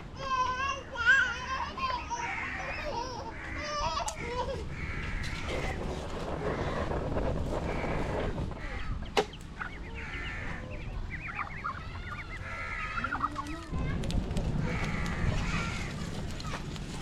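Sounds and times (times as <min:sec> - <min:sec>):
chickens clucking: 0:01.8 - 0:17.0.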